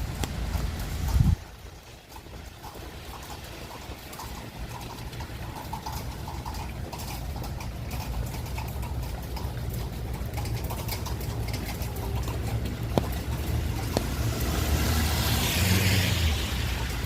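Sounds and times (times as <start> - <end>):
rain drops pattering: 0.0 - 17.0
rain falling: 0.0 - 17.0
wind rumbling on microphone: 0.0 - 17.0.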